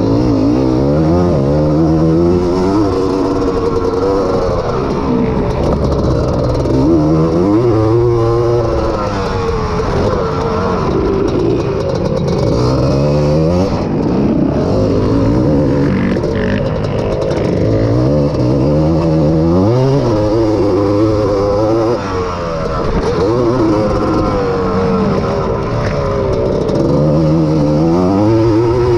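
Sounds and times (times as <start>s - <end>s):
two-stroke engine revving: 0.0s - 28.9s.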